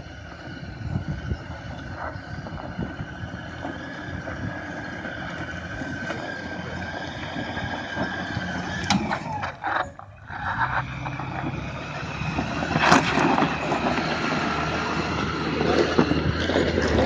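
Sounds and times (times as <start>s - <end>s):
vehicle engine pulling uphill: 0.0s - 17.0s
tyres over loose stones: 0.4s - 17.0s.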